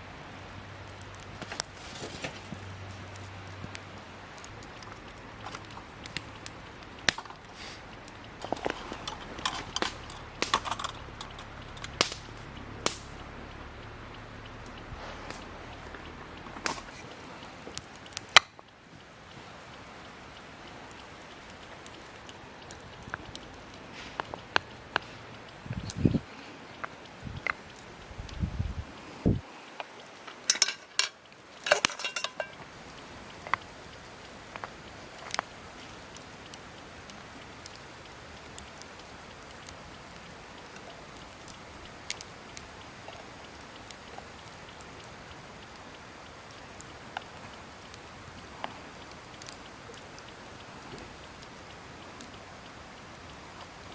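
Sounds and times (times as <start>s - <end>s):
campfire crackling: 0.0s - 53.9s
fire pops and snaps: 0.0s - 53.9s.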